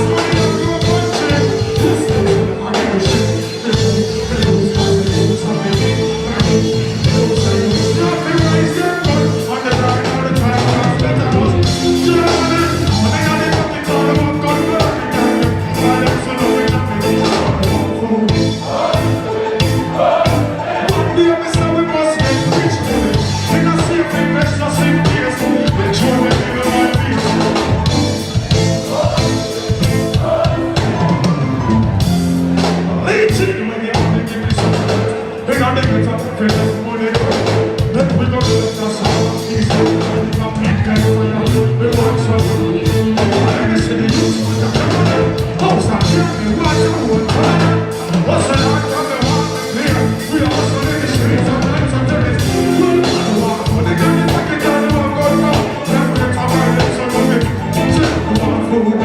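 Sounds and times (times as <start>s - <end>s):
man singing: 0.0s - 32.1s, 32.9s - 59.0s
live reggae band: 0.0s - 59.0s.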